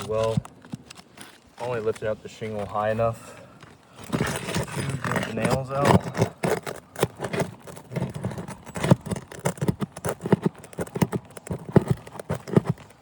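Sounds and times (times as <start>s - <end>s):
roof shingles clicking and scraping: 0.0s - 13.0s.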